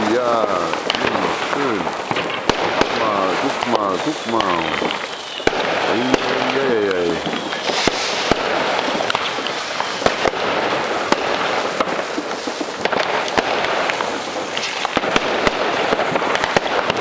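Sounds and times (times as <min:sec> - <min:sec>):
fireworks crackling: 0:00.0 - 0:17.0
sharp bangs of fireworks: 0:00.0 - 0:17.0.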